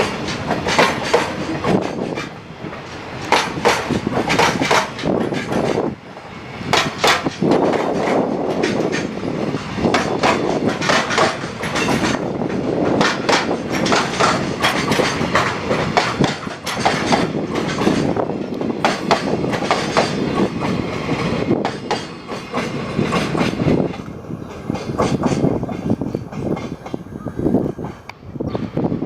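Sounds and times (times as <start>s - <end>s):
freight train rumble: 0.0s - 29.0s
train wheels clicking on rail joints: 0.0s - 29.0s.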